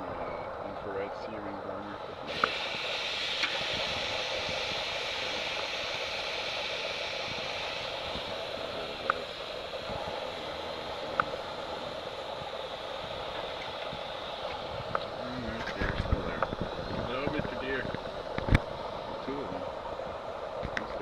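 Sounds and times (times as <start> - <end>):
steaks sizzling on a grill: 0.9 - 21.0.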